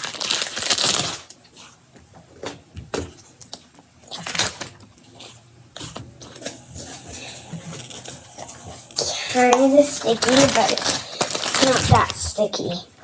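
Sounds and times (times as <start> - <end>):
sticky slime squishes: 0.0 - 12.8.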